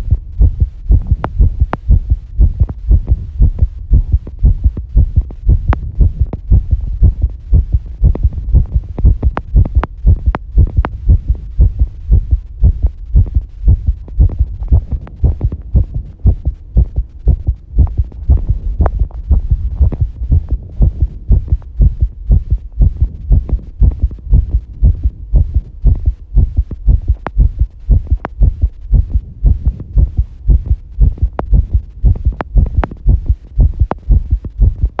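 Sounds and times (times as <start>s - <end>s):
heartbeat thumping: 0.0s - 35.0s.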